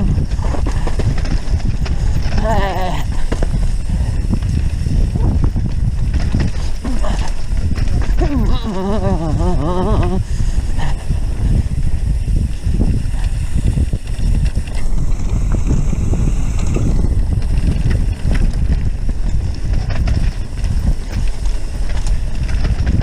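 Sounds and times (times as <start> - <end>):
bike rattles and clicks: 0.0 - 23.0
bike tyres rumbling on trail: 0.0 - 23.0
wind buffeting microphone: 0.0 - 23.0.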